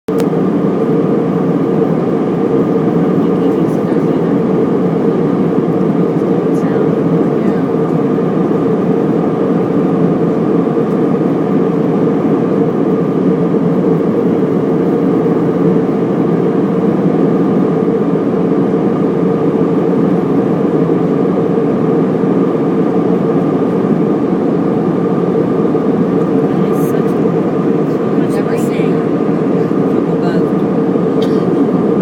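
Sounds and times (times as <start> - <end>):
airplane cabin engine rush: 0.1 - 32.0
constant hum: 0.1 - 32.0.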